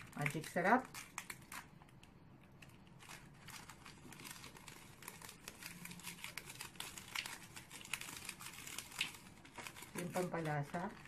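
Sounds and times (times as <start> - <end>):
foil sachet crinkling: 0.0 - 11.0.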